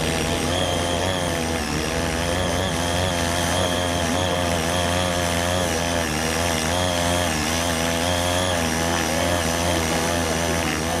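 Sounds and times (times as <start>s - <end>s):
two-stroke tiller engine running: 0.0s - 11.0s.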